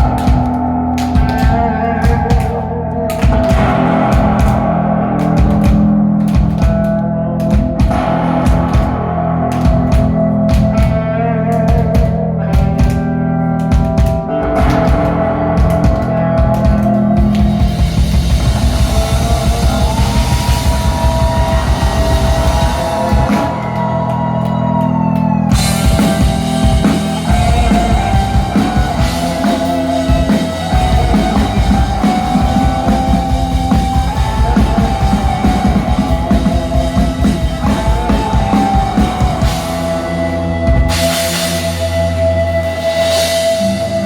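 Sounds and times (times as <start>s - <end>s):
rock music: 0.0s - 44.0s.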